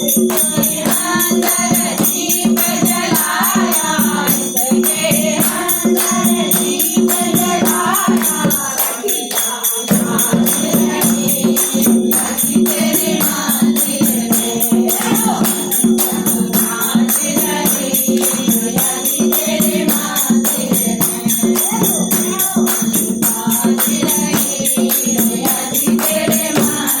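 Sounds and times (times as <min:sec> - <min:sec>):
group devotional singing: 0:00.0 - 0:27.0.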